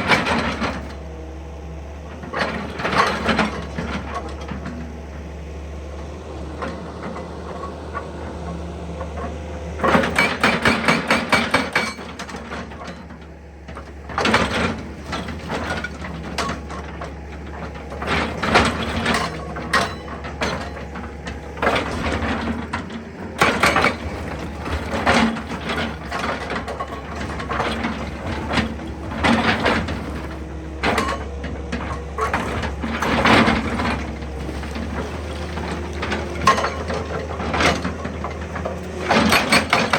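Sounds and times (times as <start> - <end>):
excavator engine hum: 0.0 - 39.9.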